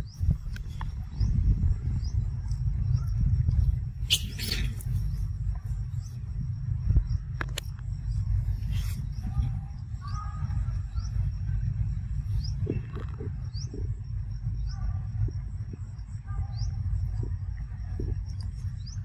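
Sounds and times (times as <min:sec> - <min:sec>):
faint high insect whine: 0:00.0 - 0:19.0
steady low rumble: 0:00.0 - 0:19.0.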